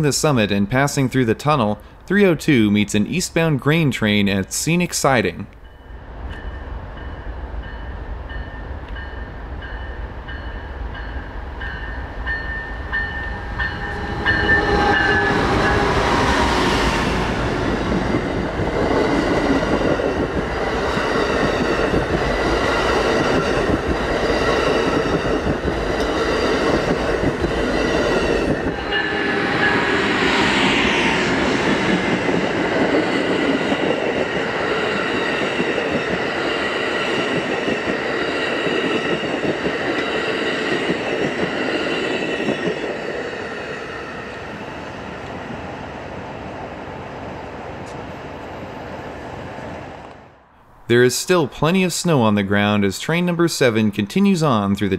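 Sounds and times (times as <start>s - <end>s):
diesel locomotive passing: 5.0s - 54.9s
train wheels on rails: 5.6s - 52.8s.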